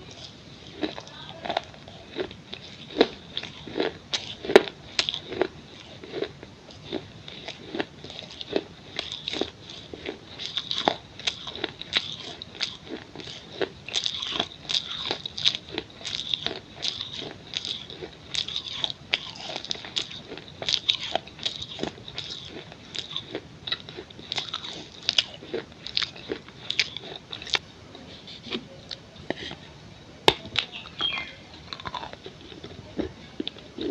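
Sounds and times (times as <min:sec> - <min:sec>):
clay pieces crunching when chewed: 0:00.0 - 0:29.7, 0:30.3 - 0:33.9.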